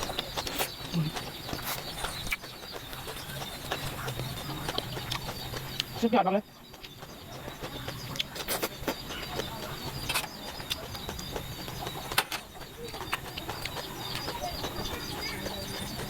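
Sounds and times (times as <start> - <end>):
mouth chewing food: 0.0 - 16.0.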